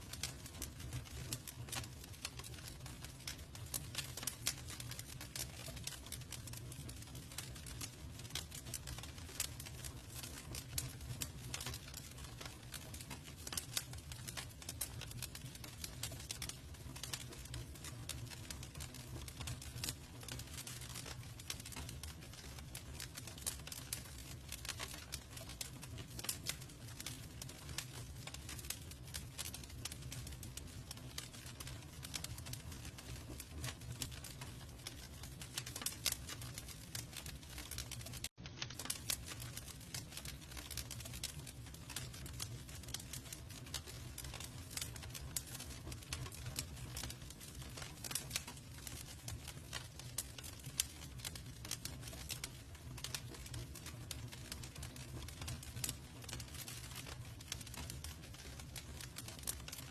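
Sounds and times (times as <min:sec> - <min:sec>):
campfire crackling: 0:00.1 - 0:59.8.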